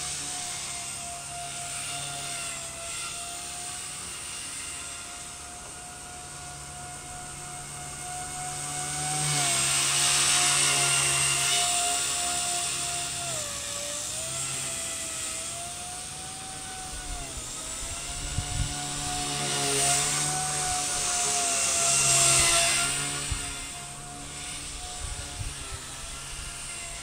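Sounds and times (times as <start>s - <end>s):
rc helicopter motor whine: 0.0s - 27.0s.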